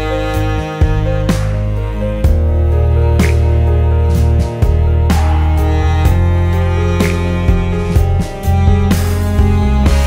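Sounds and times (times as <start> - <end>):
deep steady bass: 0.0 - 10.0
sustained chords: 0.1 - 9.9.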